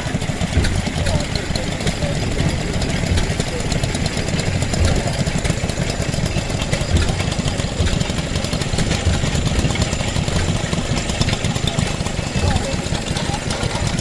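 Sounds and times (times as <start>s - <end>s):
engine idling with low chugging: 0.0s - 14.0s.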